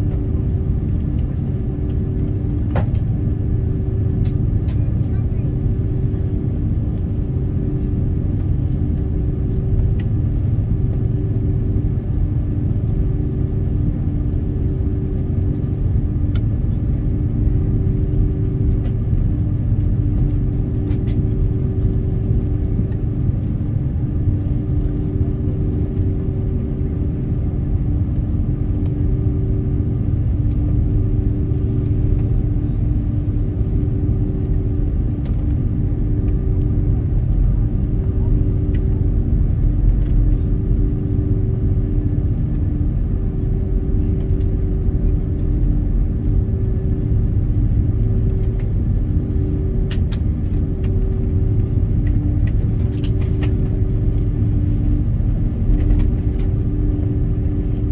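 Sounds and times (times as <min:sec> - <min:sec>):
airliner cabin rumble: 0:00.0 - 0:57.9
jet engine hum: 0:00.0 - 0:57.9.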